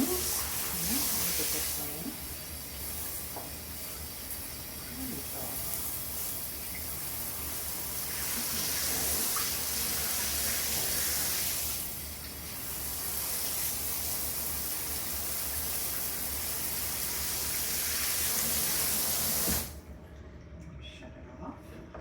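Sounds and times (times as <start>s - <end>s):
shower spray hissing: 0.0s - 19.8s.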